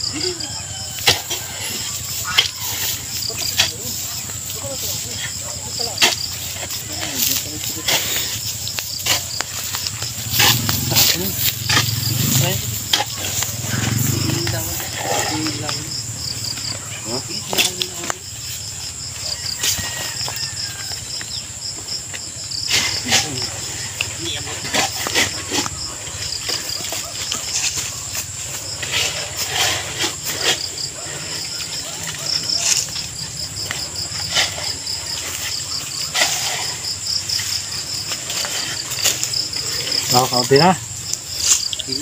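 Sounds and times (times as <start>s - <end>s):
crickets chirping: 0.0s - 42.0s
high insect drone: 0.0s - 42.0s
soil being dug by hand: 0.3s - 42.0s.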